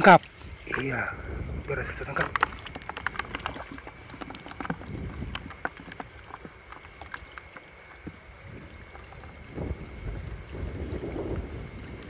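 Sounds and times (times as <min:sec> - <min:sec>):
water sloshing from wading: 0:00.0 - 0:12.0
wind rumbling on microphone: 0:00.0 - 0:12.0.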